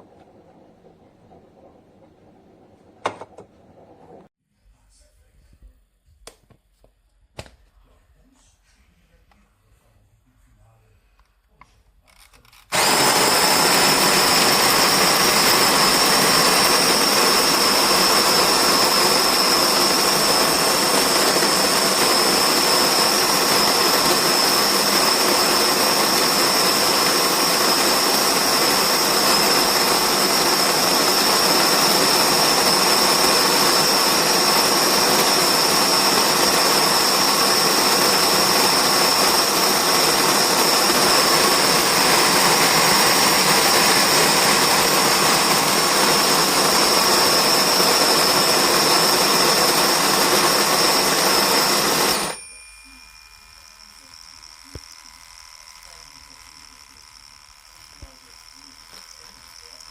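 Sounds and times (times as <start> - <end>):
coffee grinder motor whining: 0.0 - 4.3, 12.1 - 52.4, 53.0 - 59.9.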